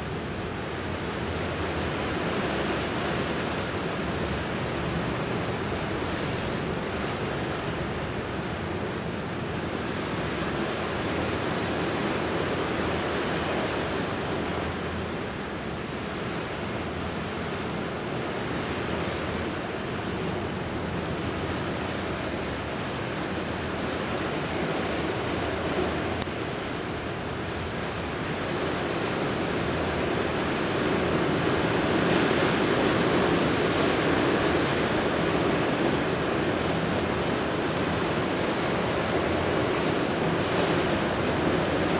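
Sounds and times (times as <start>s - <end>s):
sea rushing: 0.0s - 41.9s
wind along shore: 0.0s - 41.9s.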